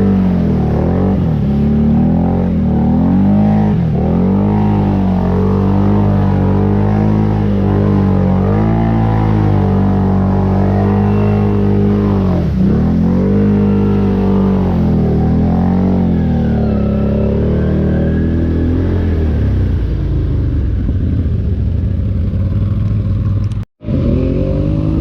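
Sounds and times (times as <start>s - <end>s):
atv engine revving: 0.0s - 25.0s.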